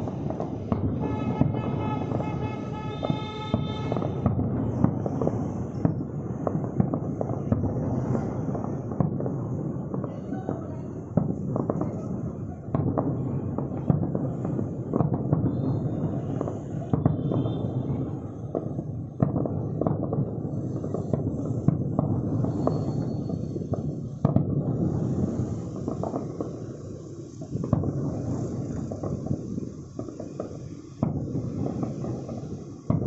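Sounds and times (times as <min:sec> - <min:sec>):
firework shells bursting: 0:00.0 - 0:33.0.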